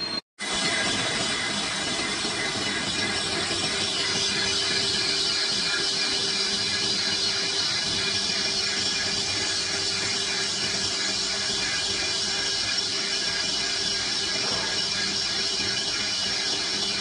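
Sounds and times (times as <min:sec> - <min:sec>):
hissing metal cutting noise: 0:00.4 - 0:17.0
lathe machine hum: 0:00.4 - 0:17.0.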